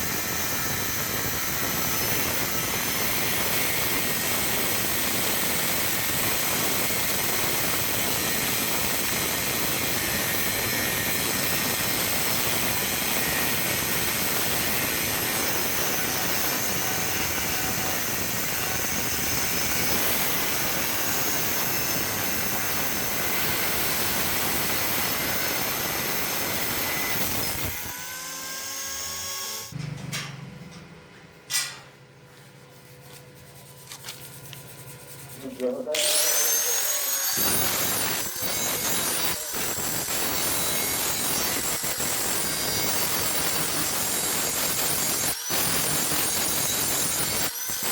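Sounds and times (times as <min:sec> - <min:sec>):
angle grinder grinding steel: 0:00.0 - 0:29.8, 0:35.3 - 0:47.9.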